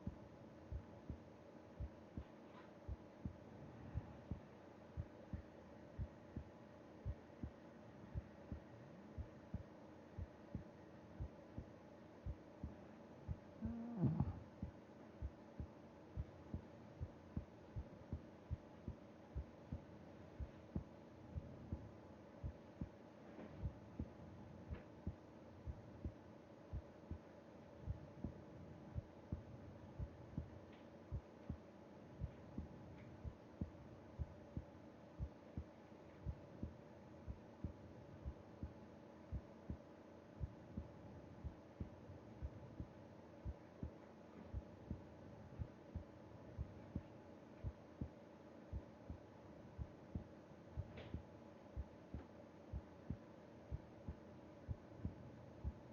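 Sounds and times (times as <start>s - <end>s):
faint steady hum: 0.0s - 55.9s
heartbeat low thumps: 2.9s - 22.9s, 23.5s - 27.2s, 27.8s - 30.5s, 31.1s - 34.7s, 35.6s - 48.1s, 49.8s - 51.2s, 51.8s - 55.9s.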